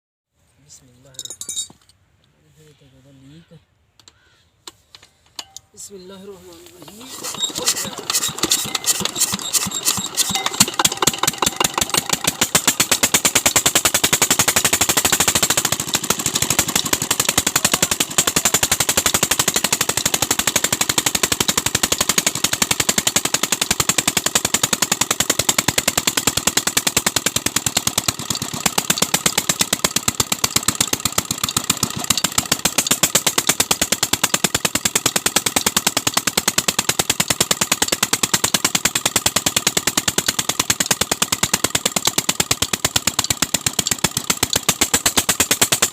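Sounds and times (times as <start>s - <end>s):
diesel engine chugging: 6.2s - 45.9s.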